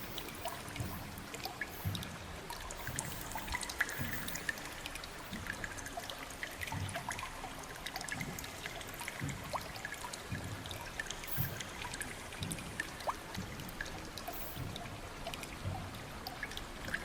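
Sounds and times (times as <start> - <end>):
water drips and plinks: 0.0 - 17.0
water trickling: 0.0 - 17.0.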